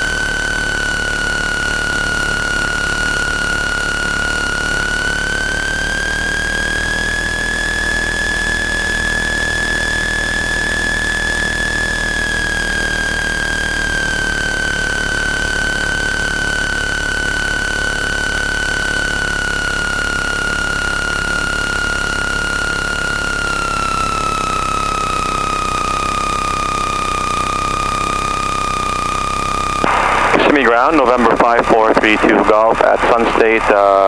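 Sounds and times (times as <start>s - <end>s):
aircraft engine with high whine: 0.0s - 34.0s.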